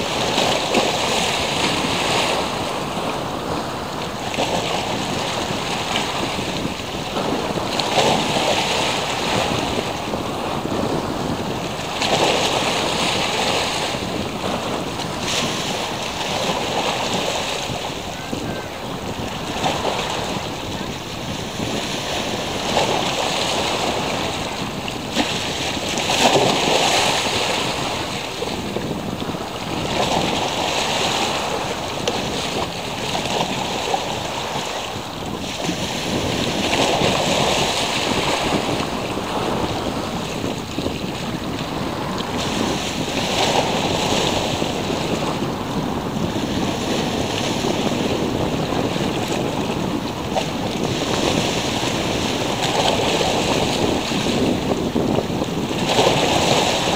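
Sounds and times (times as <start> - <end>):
waves washing onto shore: 0.0 - 56.9.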